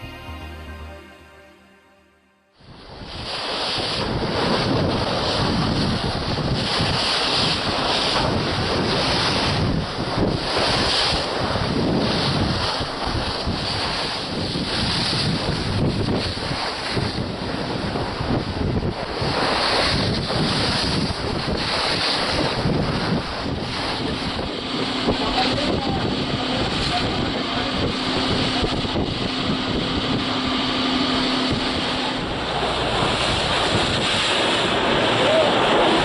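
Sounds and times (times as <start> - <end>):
wind noise on microphone: 2.6 - 36.0
rushing water: 2.7 - 36.0.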